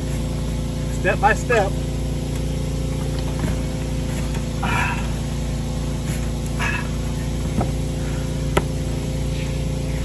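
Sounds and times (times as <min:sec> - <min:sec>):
generator engine hum: 0:00.0 - 0:10.0.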